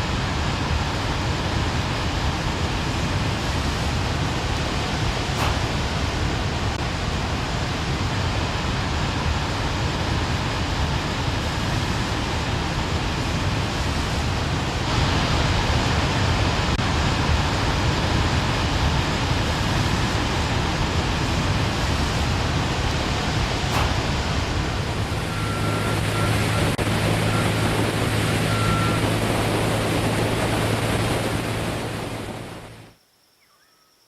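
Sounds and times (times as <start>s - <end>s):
wind and motorcycle road noise: 0.0s - 33.0s.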